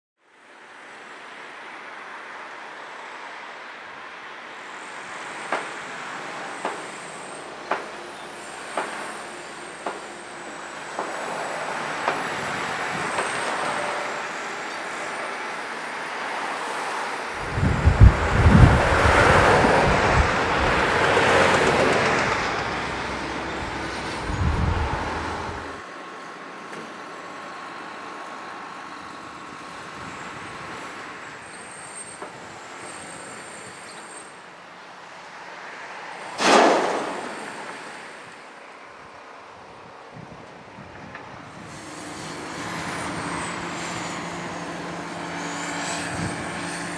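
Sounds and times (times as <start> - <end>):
construction site noise: 0.6 - 46.9.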